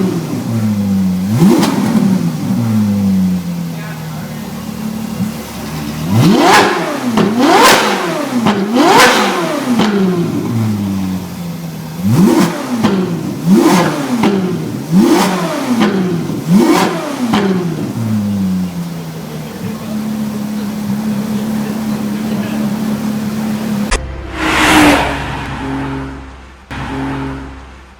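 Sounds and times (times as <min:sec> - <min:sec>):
sports car engine revving: 0:00.0 - 0:27.9.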